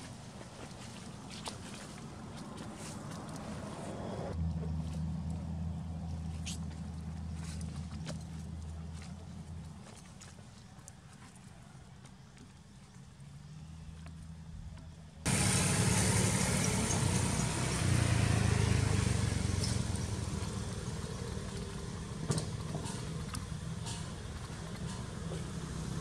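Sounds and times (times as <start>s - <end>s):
engine rumbling: 2.0s - 10.0s, 13.1s - 26.0s.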